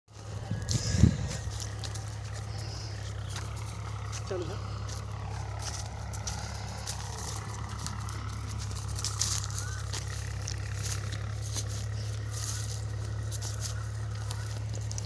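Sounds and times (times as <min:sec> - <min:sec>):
footsteps crunching through stubble: 0:00.1 - 0:15.0
low engine drone: 0:00.1 - 0:15.0.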